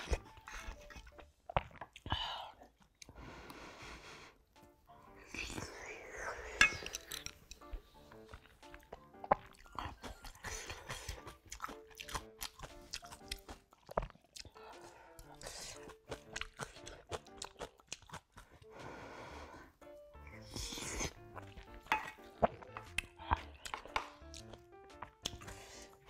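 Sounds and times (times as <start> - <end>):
person chewing and crunching food: 0.0 - 26.0
soft background music: 0.0 - 26.0.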